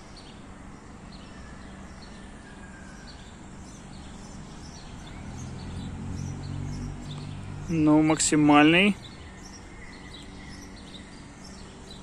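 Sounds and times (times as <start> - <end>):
distant background hum: 0.0 - 12.0.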